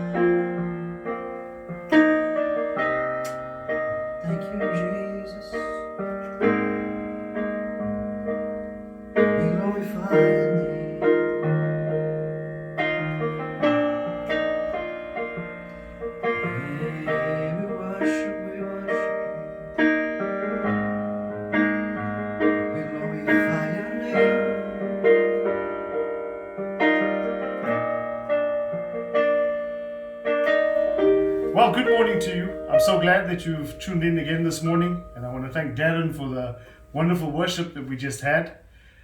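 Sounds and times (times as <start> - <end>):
electric piano chords: 0.0 - 39.0.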